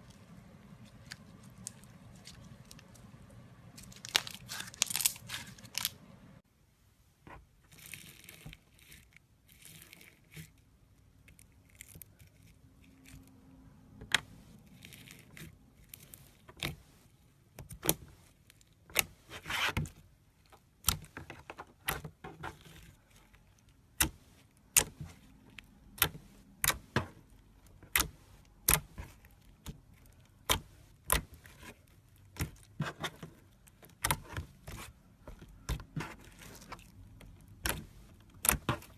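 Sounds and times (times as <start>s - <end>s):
slime squishing: 0.0s - 6.0s, 7.6s - 38.9s.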